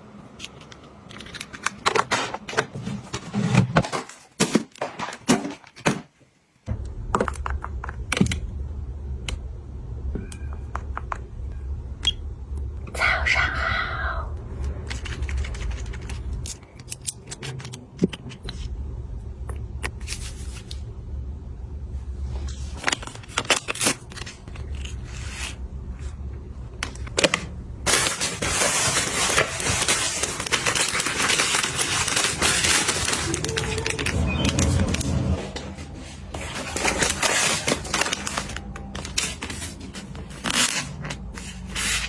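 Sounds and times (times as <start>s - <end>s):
low hum: 6.7s - 42.0s.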